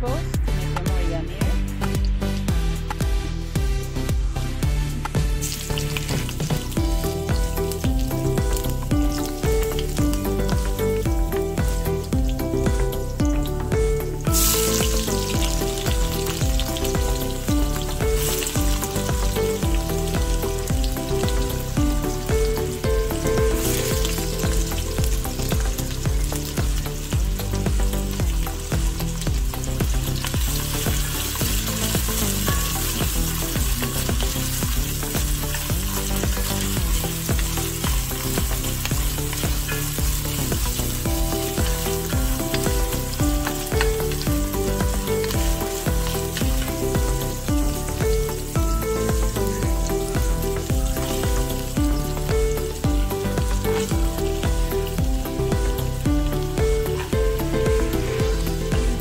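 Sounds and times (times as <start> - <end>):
background music with bass line: 0.0 - 59.0
onions sizzling in oil: 4.8 - 59.0.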